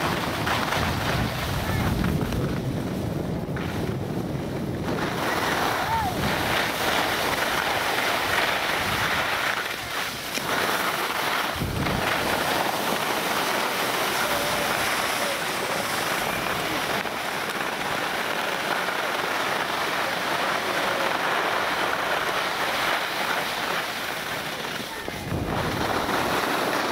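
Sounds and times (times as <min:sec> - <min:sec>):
wind buffeting microphone: 0:00.0 - 0:18.4, 0:21.6 - 0:26.9
skis sliding over snow: 0:00.0 - 0:26.9.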